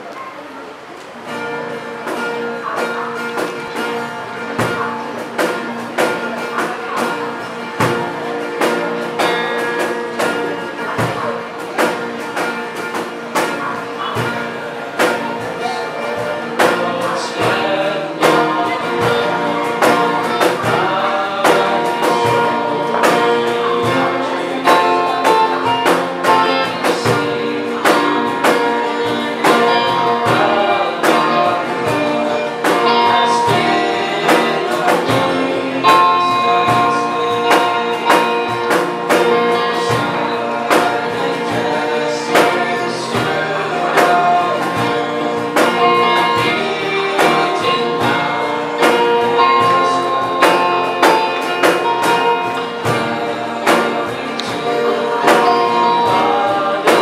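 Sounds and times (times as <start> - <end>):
cajon beat: 0.0 - 57.0
electric guitar: 0.0 - 57.0
strummed acoustic guitars: 0.0 - 57.0
young man singing: 2.2 - 57.0.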